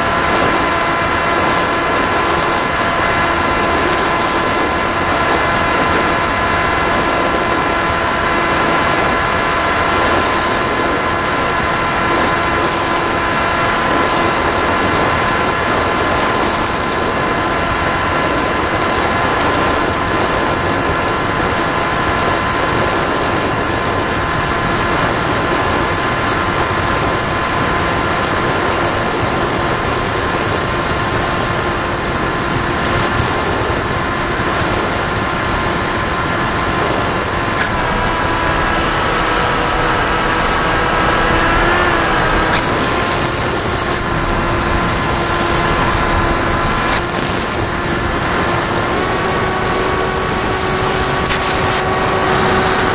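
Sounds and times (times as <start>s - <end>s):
high motor whine: 0.0s - 52.9s
rushing airflow: 0.0s - 52.9s.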